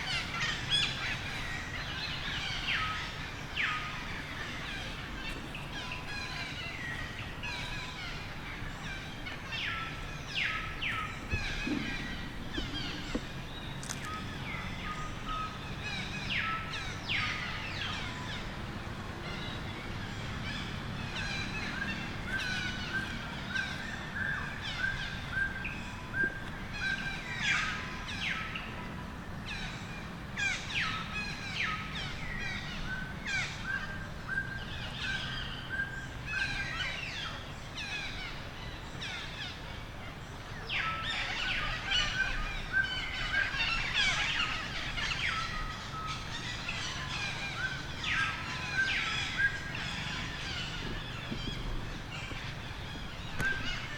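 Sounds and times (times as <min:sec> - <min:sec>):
birds chirping: 0:00.0 - 0:53.9
steady background hiss: 0:00.0 - 0:53.9.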